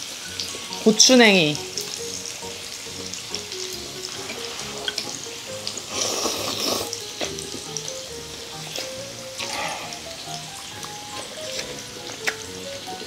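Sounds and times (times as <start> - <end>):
background music: 0.0 - 13.0
meat sizzling on a grill pan: 0.0 - 13.0.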